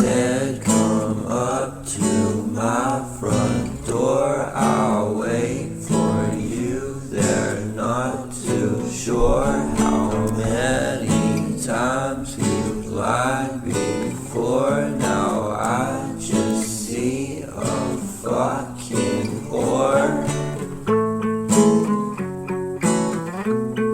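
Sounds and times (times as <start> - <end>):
person singing: 0.0 - 20.9
pop song with acoustic guitar: 0.0 - 23.9.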